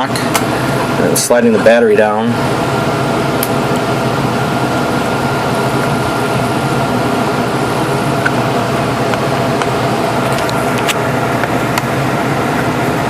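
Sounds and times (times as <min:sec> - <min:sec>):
loud mechanical hum: 0:00.0 - 0:13.0.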